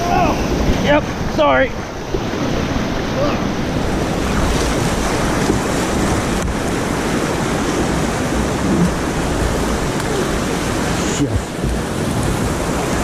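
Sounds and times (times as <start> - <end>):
river rapids rushing: 0.0 - 13.0
wind rumbling on microphone: 0.0 - 13.0.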